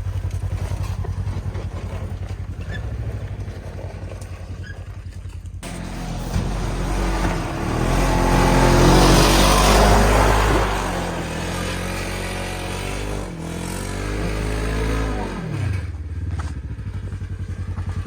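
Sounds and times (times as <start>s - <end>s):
engine revving and idling: 0.0s - 18.0s.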